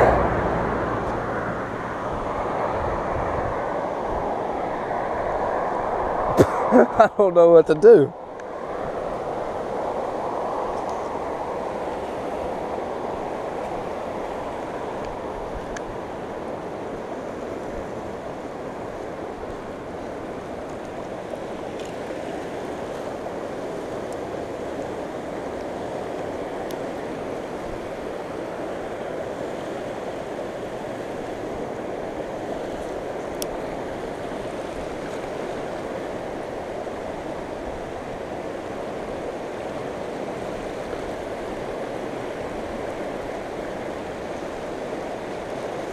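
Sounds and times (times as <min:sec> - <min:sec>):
flooded river rushing: 0:00.0 - 0:45.9.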